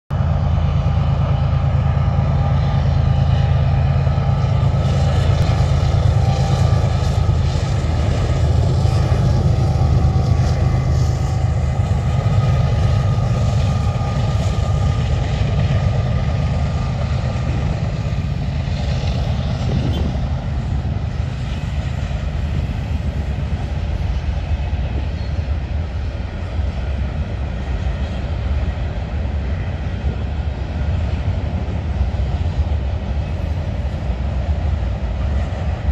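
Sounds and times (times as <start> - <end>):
diesel locomotive engine drone: 0.1 - 35.9
freight cars rumbling by: 0.1 - 35.9.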